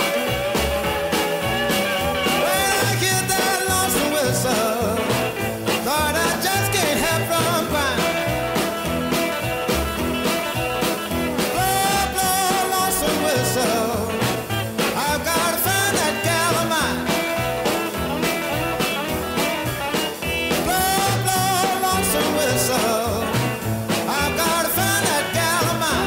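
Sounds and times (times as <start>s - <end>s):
blues rock and roll band: 0.0s - 26.0s
person singing: 0.0s - 26.0s.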